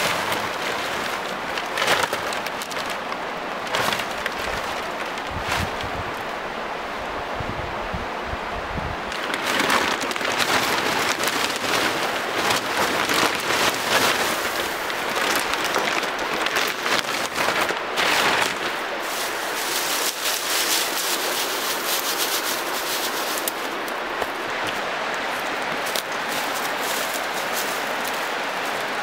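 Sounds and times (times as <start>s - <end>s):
plastic sack rustling: 0.0s - 6.5s, 9.0s - 29.0s
dry twigs crackling: 0.0s - 6.6s, 9.0s - 29.0s.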